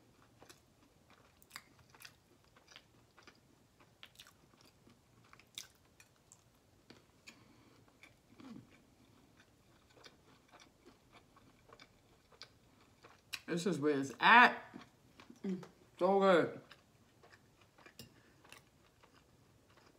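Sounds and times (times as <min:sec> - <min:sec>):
person chewing soft food: 0:00.0 - 0:13.5, 0:14.6 - 0:16.0, 0:16.6 - 0:19.9.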